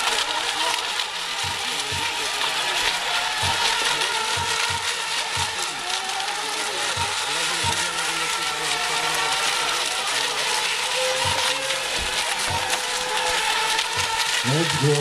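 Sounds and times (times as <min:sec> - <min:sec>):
high whine of boat motors: 0:00.0 - 0:15.0.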